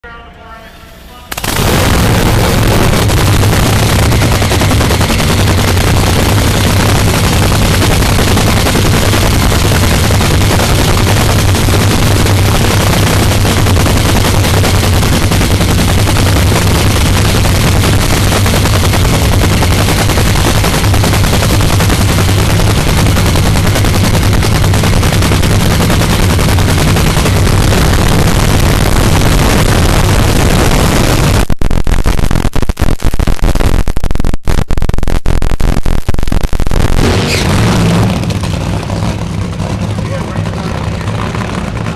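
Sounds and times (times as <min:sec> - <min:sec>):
drag racing engine cracking exhaust: 0:01.3 - 0:33.6, 0:35.1 - 0:41.9.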